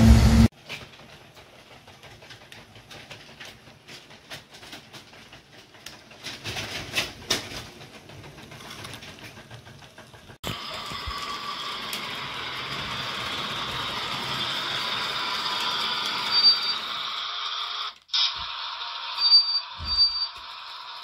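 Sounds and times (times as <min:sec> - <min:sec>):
model train rolling on track: 0:00.0 - 0:21.0
wheels clicking over rail joints: 0:00.5 - 0:21.0.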